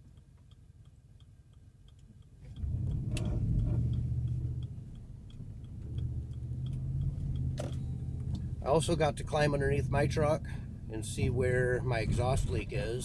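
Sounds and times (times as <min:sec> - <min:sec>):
truck engine and exhaust rumble: 0:00.0 - 0:13.0
turn signal ticking: 0:00.0 - 0:13.0.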